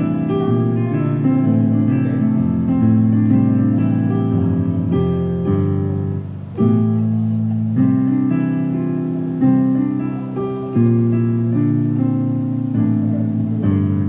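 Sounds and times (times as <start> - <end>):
electronic keyboard chords: 0.0 - 14.0.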